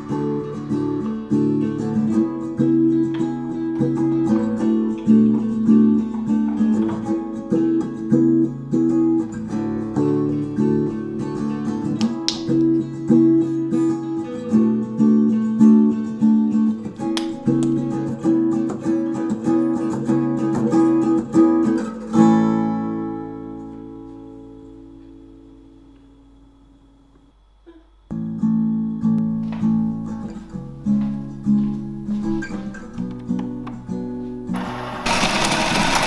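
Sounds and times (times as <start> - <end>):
plucked acoustic guitar: 0.0 - 25.0, 28.1 - 34.6.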